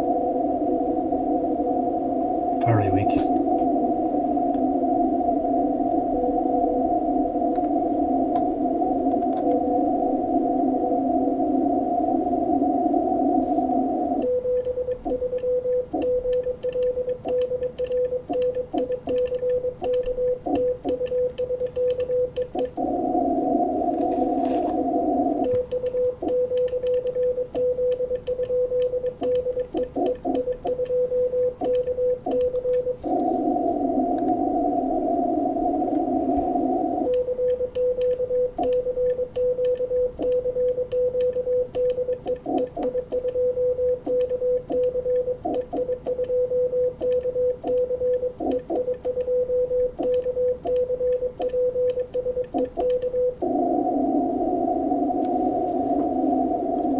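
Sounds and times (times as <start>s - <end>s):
receiver hiss: 0.0s - 56.9s.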